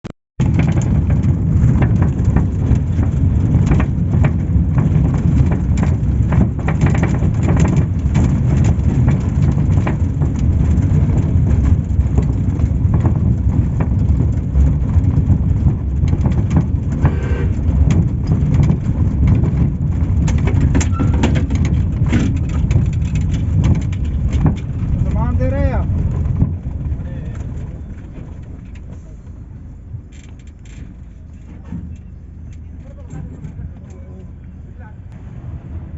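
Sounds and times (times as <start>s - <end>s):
bus engine and road drone: 0.0s - 35.9s
bus body rattling: 0.4s - 35.9s.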